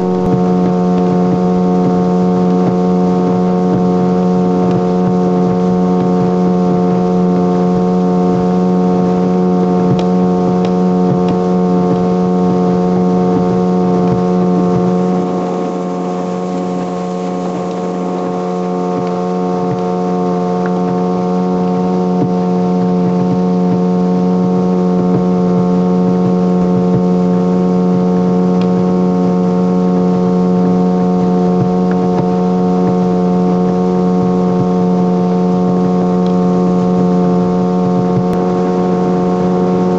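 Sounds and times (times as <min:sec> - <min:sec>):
motorboat engine droning: 0:00.0 - 0:39.9
water and wind noise: 0:00.0 - 0:39.9.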